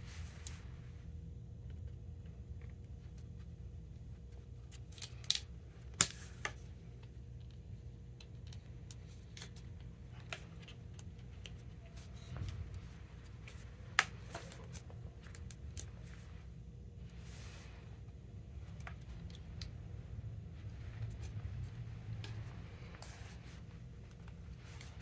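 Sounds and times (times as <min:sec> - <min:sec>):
steady low hum: 0:00.0 - 0:25.0
awl clicking and scraping: 0:04.2 - 0:25.0.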